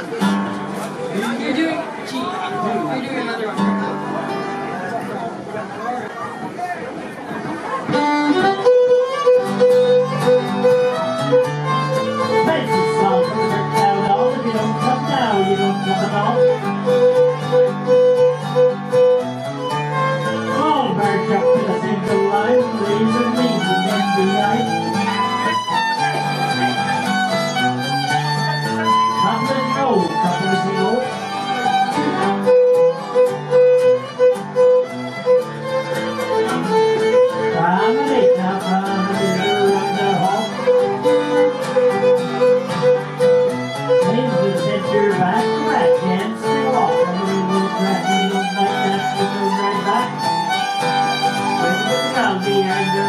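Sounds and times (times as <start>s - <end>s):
fiddle tune on violin: 7.8s - 53.0s.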